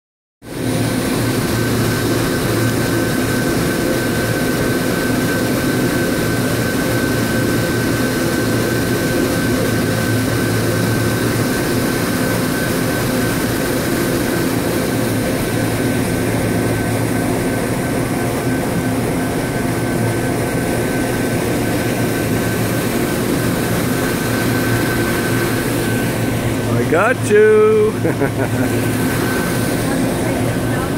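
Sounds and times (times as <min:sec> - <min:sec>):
boat engine mechanical drone: 0:00.5 - 0:30.9.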